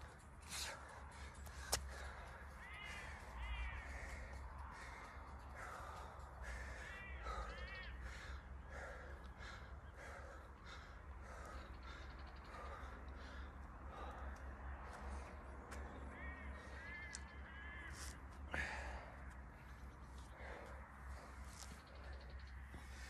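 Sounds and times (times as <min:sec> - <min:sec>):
harsh bird calls: 0:00.5 - 0:23.0.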